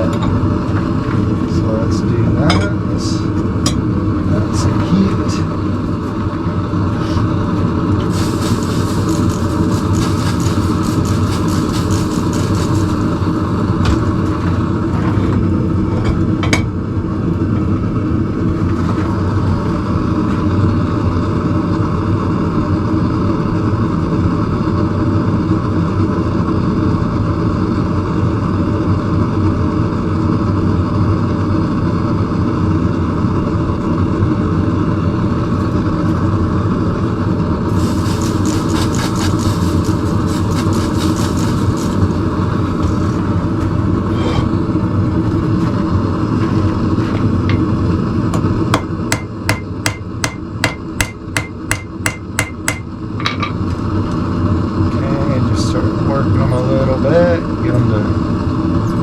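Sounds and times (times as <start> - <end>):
forge rumble and hum: 0.0 - 59.0.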